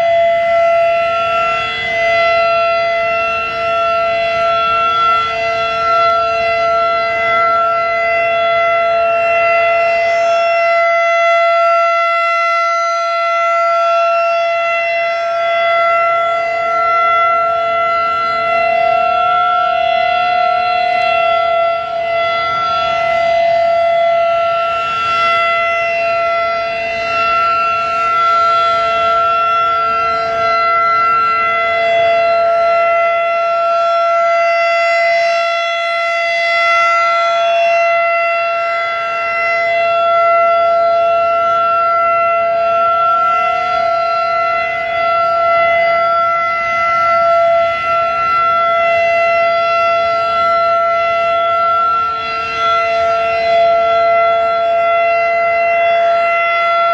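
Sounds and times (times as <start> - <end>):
distant siren: 0.0 - 56.9
warning siren steady tone: 0.0 - 56.9.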